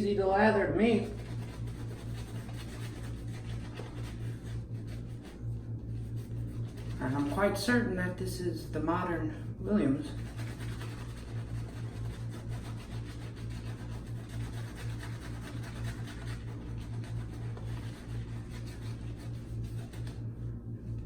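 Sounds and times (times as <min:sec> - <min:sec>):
shaving brush scrubbing lather: 0:00.0 - 0:09.2, 0:09.8 - 0:20.4
low hum: 0:00.0 - 0:21.0.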